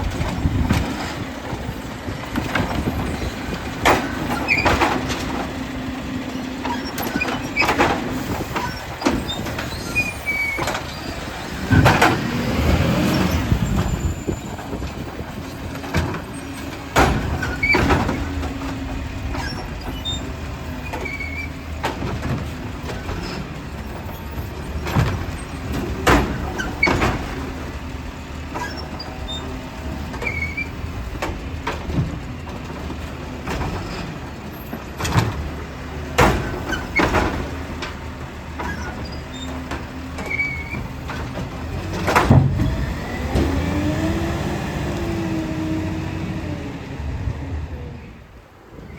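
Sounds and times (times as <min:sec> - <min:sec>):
garbage truck running: 0:00.0 - 0:48.9.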